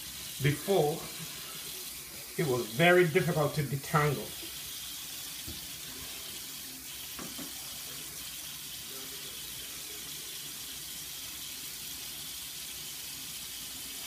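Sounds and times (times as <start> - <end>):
faucet running into sink: 0.0 - 14.0.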